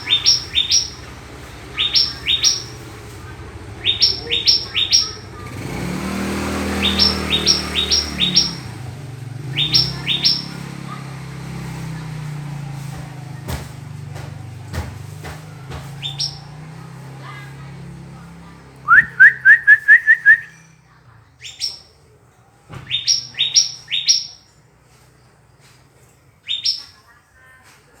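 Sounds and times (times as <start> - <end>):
bird calling: 0.0 - 22.0, 22.8 - 24.5, 26.4 - 27.2.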